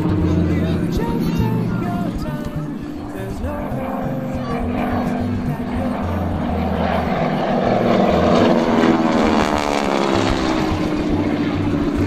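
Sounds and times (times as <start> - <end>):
propeller plane passing overhead: 0.0 - 12.0.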